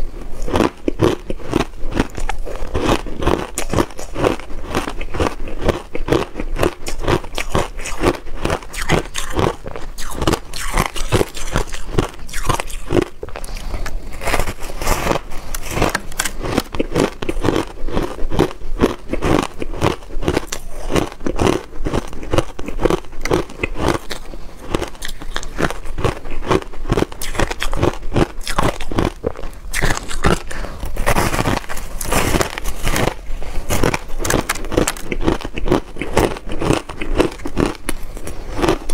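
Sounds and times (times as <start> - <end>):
crunching and chewing ice: 0.0 - 38.9.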